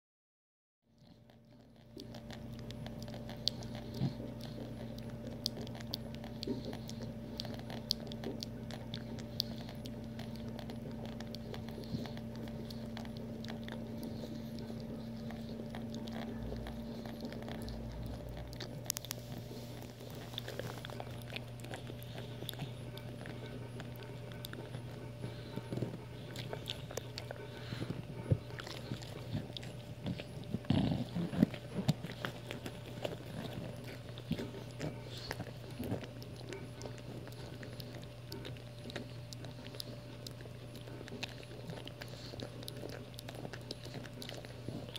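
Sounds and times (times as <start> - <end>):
steady low hum: 0.9 - 44.9.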